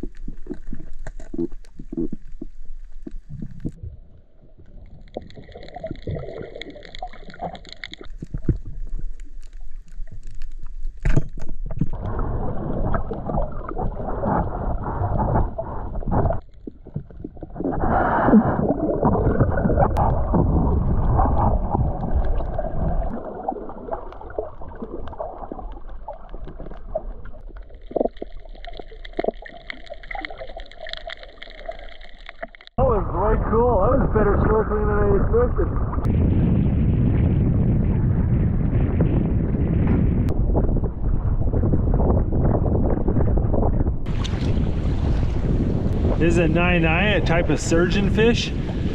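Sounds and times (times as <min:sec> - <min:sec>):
underwater gurgling and rushing water: 0:00.0 - 0:48.9.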